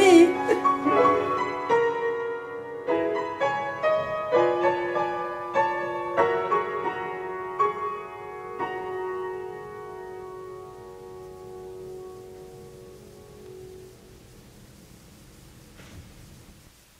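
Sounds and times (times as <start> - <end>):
slow solo piano melody: 0.0 - 14.2.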